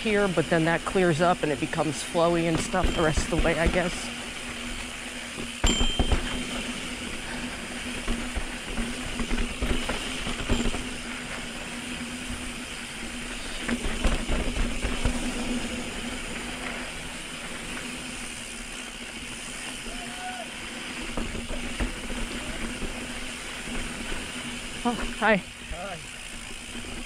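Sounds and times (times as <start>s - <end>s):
bike tyres rumbling over rocks: 0.0s - 27.0s.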